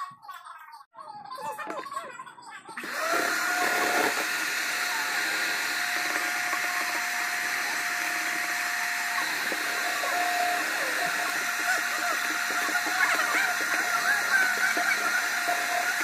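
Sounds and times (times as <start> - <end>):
electric hand mixer whirring: 2.8 - 16.0.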